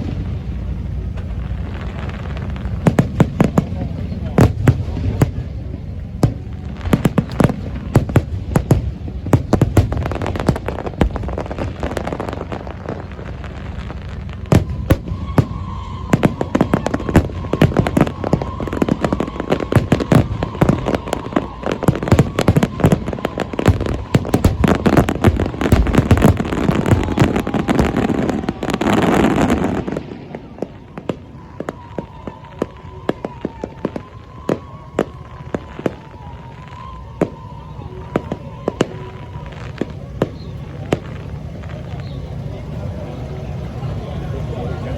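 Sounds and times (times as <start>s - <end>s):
fireworks crackling and popping: 0.0s - 44.9s.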